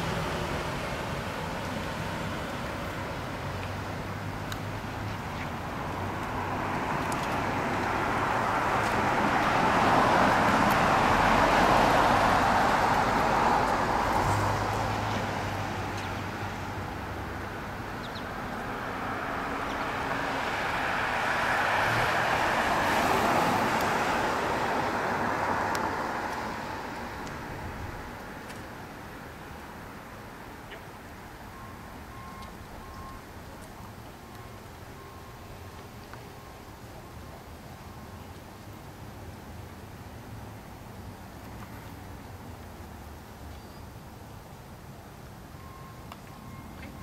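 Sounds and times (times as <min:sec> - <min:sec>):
vehicles passing: 0:00.0 - 0:47.0.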